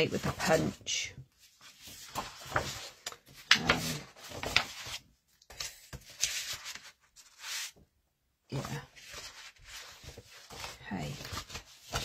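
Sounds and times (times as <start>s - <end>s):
paper sheets rustling: 0.0s - 7.8s, 8.5s - 12.0s.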